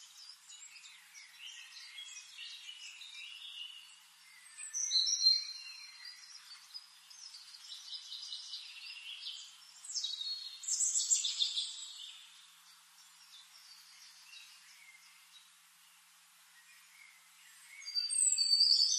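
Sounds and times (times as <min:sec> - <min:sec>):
songbirds chirping and singing: 0:00.0 - 0:18.9.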